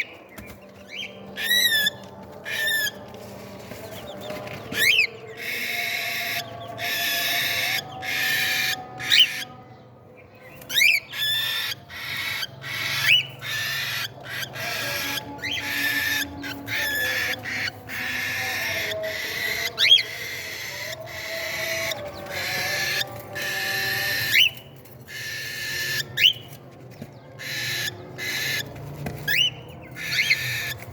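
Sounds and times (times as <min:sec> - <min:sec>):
chicks raspy begging calls: 0:03.9 - 0:09.5, 0:10.6 - 0:26.6, 0:27.4 - 0:30.9.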